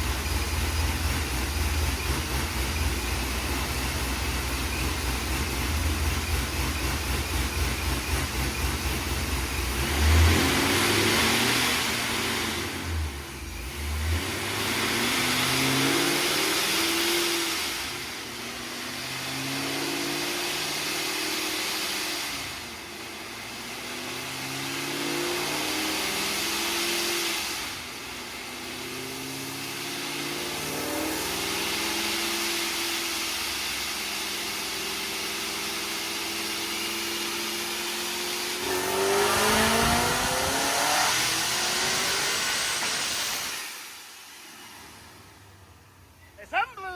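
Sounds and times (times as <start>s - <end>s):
car engine accelerating through gears: 0.0s - 46.1s.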